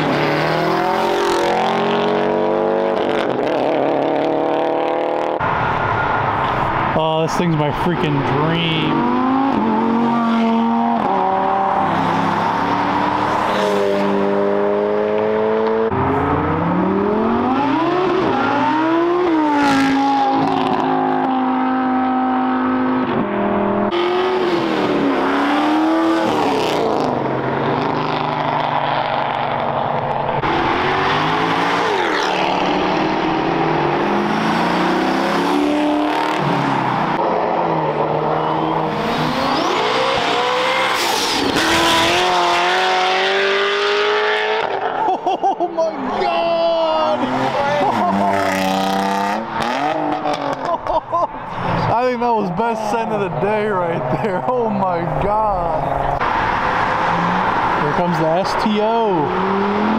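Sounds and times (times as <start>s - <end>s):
cars accelerating past revving: 0.0s - 7.1s, 8.2s - 45.6s, 46.6s - 59.9s.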